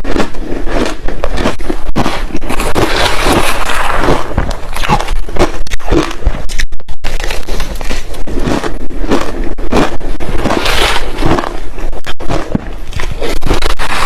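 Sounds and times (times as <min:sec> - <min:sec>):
chewing crushed ice: 0:00.0 - 0:14.0.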